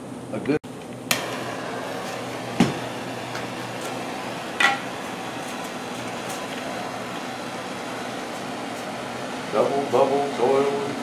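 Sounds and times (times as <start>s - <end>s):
gas torch hissing: 1.1s - 11.0s.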